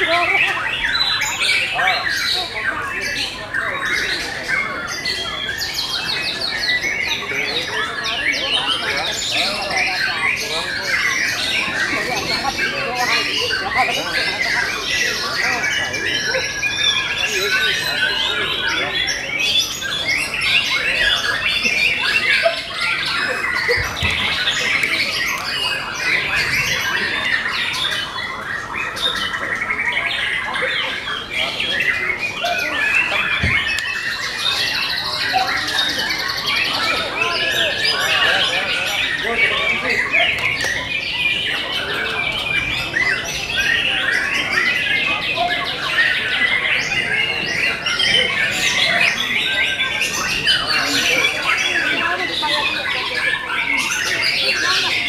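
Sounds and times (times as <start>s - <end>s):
birds singing chorus: 0.0s - 55.0s.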